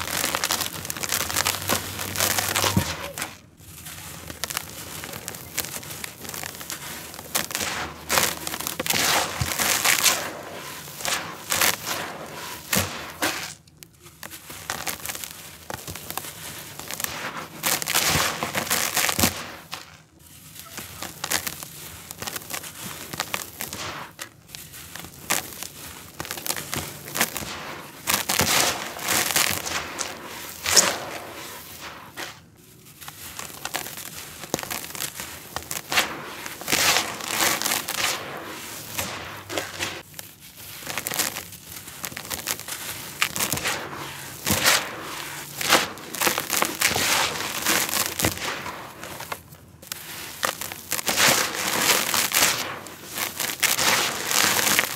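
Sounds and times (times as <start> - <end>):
dirt poured by hand: 0.0 - 54.9.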